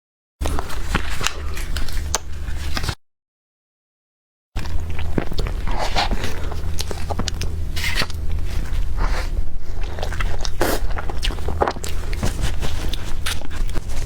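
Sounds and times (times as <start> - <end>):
steady low hum: 0.4 - 2.9, 4.6 - 14.0
person chewing crunchy food: 0.4 - 3.0, 4.6 - 14.0.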